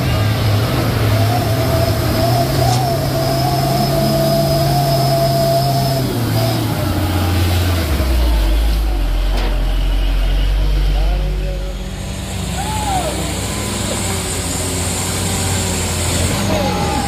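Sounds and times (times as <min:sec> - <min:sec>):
diesel engine labouring: 0:00.0 - 0:17.0
engine whine: 0:00.0 - 0:17.0.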